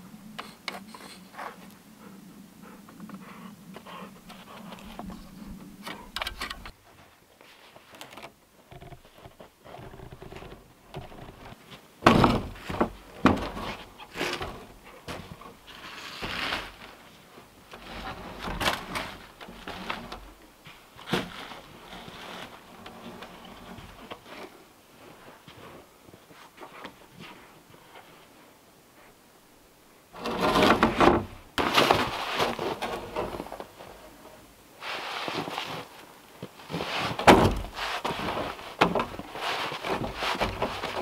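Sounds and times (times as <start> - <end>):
logs knocking and scraping: 2.8 - 28.1, 30.2 - 41.0.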